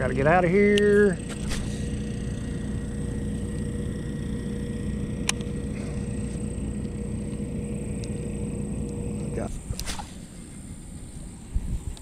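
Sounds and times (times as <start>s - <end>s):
faint steady hum: 0.0s - 12.0s
low rumble: 0.0s - 12.0s.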